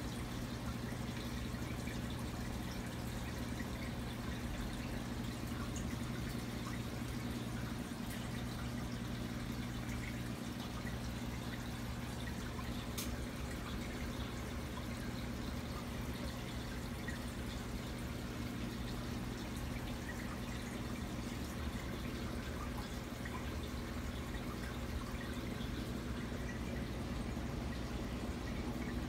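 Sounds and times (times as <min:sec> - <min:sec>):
steady low hum: 0:00.0 - 0:29.0
water trickling and dripping: 0:00.0 - 0:29.0.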